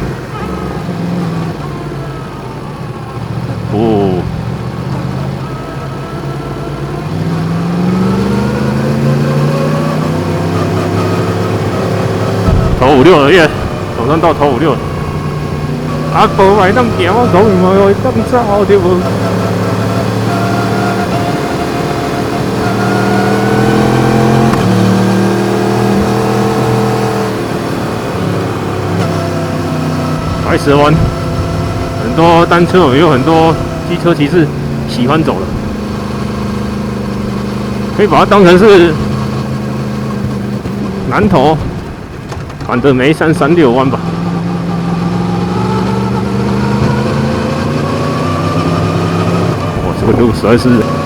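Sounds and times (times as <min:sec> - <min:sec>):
motorcycle engine revving: 0:00.0 - 0:42.8, 0:43.7 - 0:51.0.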